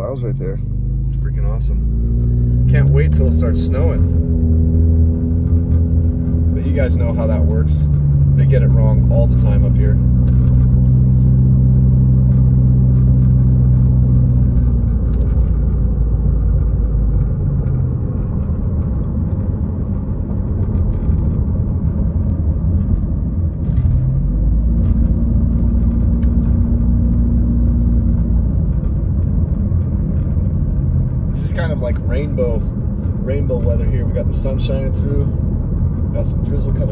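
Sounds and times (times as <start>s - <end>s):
low engine hum: 0.0s - 36.9s
tyre and road rumble: 0.0s - 36.9s.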